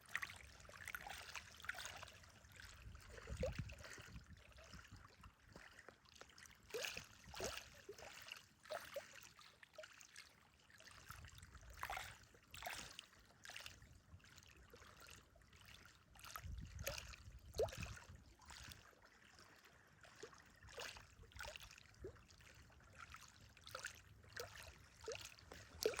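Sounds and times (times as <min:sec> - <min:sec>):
small waves lapping: 0:00.0 - 0:26.0.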